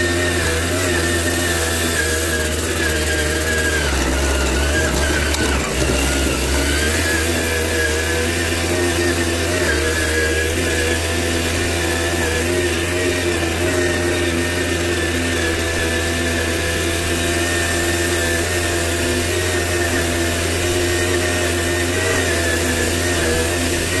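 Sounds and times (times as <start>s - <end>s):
two-stroke moped engine running: 0.0s - 24.0s.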